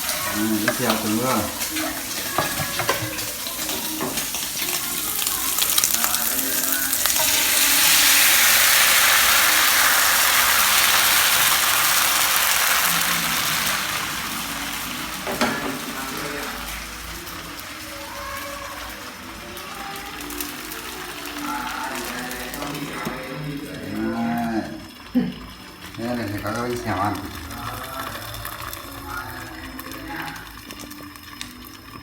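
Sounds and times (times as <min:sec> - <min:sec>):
batter sizzling in a hot pan: 0:00.0 - 0:32.0.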